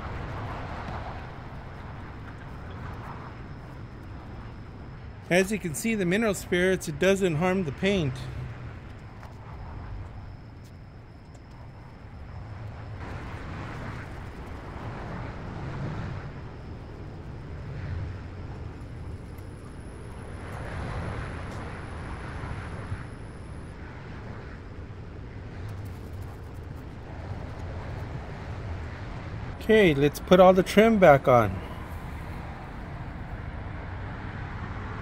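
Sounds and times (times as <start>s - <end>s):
low outdoor rumble: 0.0s - 35.0s.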